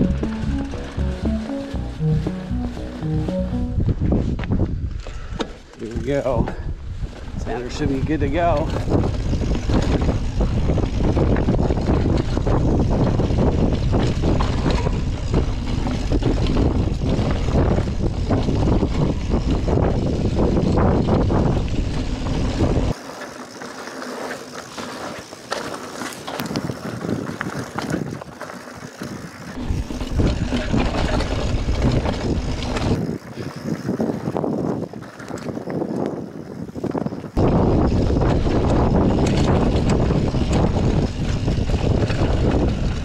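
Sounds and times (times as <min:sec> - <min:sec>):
bike tyres on dirt and stones: 0:00.0 - 0:43.0
wind buffeting microphone: 0:03.8 - 0:23.0, 0:26.3 - 0:43.0
bike rattling and clicking: 0:04.3 - 0:43.0.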